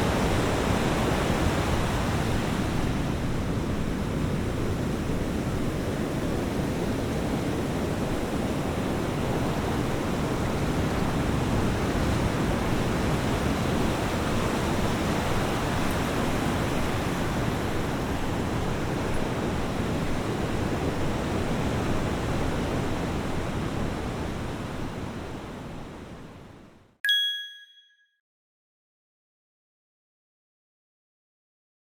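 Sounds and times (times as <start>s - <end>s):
ocean waves on beach: 0.0s - 26.5s.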